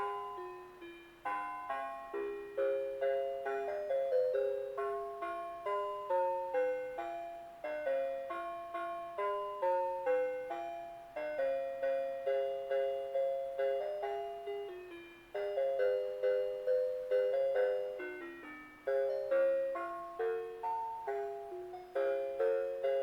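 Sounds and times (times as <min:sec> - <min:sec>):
chime-like music box melody: 0:00.0 - 0:23.0.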